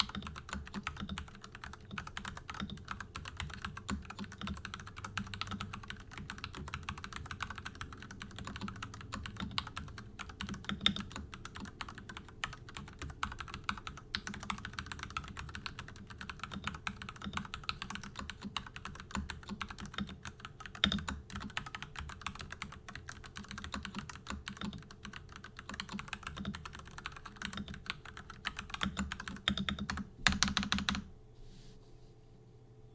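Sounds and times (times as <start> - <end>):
typing on mechanical keyboard: 0.0 - 31.1.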